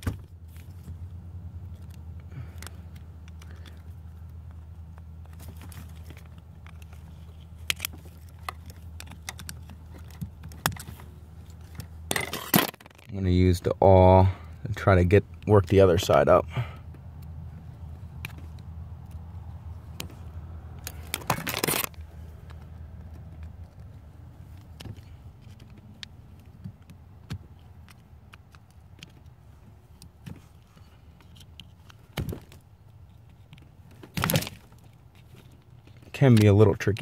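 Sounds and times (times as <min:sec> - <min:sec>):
handling noises: 0:00.0 - 0:13.8, 0:14.4 - 0:37.0
pick clicking and scraping plastic: 0:01.6 - 0:13.1, 0:16.9 - 0:37.0.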